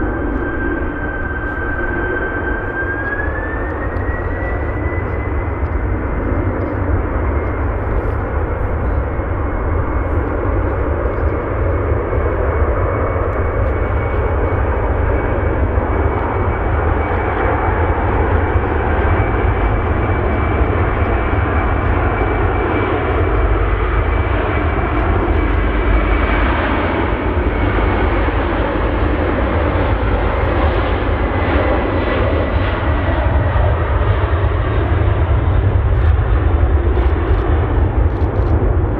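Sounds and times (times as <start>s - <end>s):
high whine dropping in pitch: 0.0s - 31.3s
jet engines running: 0.0s - 38.9s.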